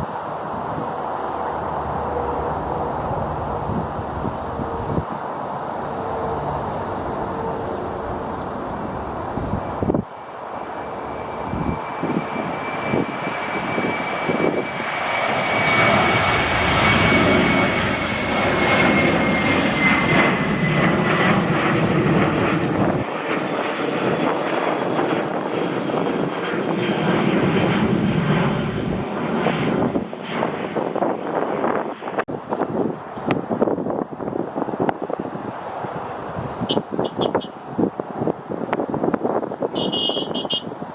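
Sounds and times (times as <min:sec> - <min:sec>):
wind buffeting microphone: 0:00.0 - 0:05.4, 0:06.0 - 0:40.9
airliner flying past: 0:00.0 - 0:40.9.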